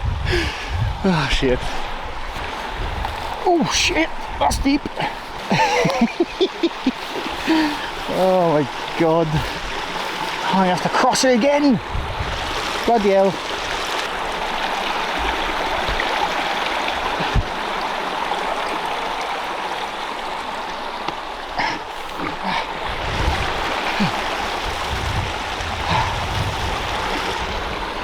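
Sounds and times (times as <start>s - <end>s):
rushing river water: 0.0s - 28.0s.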